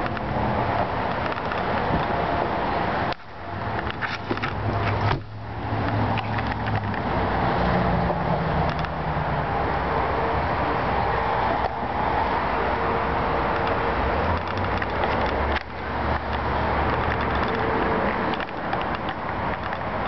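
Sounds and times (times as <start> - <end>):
road or wind noise: 0.0 - 20.0
vehicle engine hum: 0.0 - 20.0.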